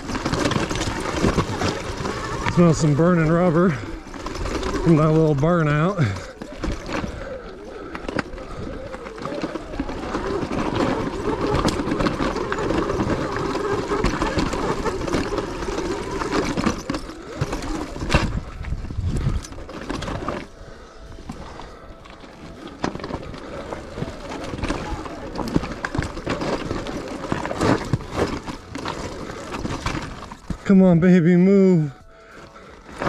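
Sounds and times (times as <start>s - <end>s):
tyres knocking over rocks: 0.0s - 31.0s.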